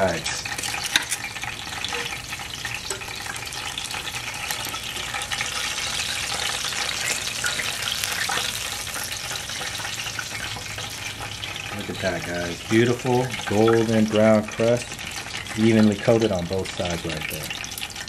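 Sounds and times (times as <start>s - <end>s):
hot oil sizzling in a skillet: 0.0s - 18.0s.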